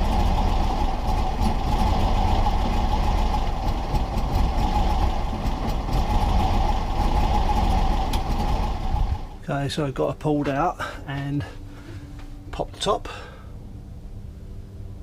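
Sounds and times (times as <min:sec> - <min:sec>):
air-cooled engine idling: 0:00.0 - 0:13.8.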